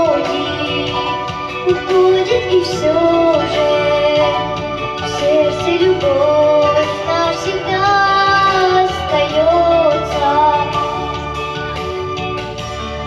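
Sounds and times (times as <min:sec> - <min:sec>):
girl singing into microphone: 0:00.0 - 0:11.2
backing track music: 0:00.0 - 0:13.0.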